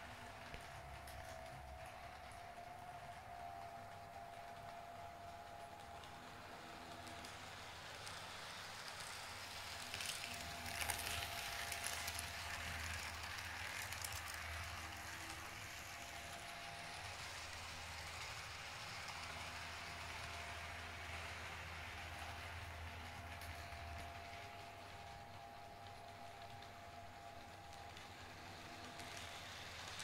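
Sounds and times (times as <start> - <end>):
model train wheels rattling on rails: 0.0 - 30.0.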